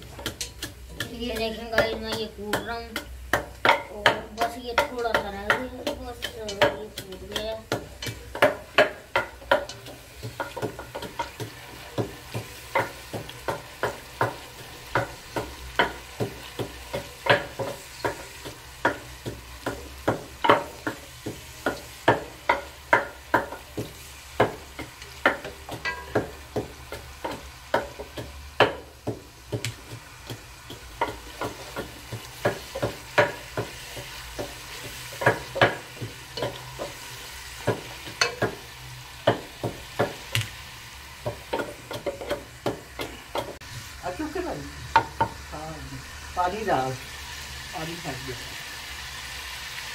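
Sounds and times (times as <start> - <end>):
oil sizzling: 0.0 - 49.9.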